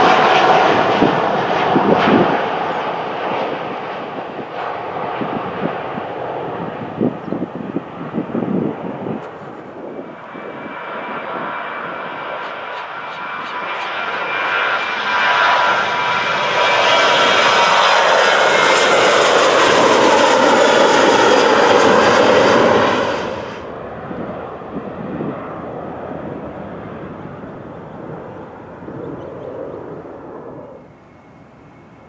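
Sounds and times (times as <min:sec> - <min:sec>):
jet engines passing close: 0:00.0 - 0:32.0.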